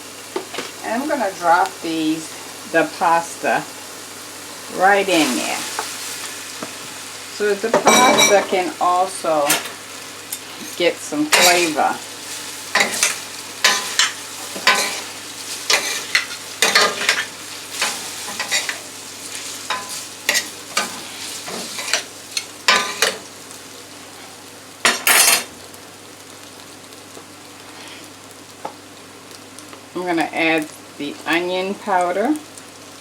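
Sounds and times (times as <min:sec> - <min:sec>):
pan sizzling: 0:00.0 - 0:33.0.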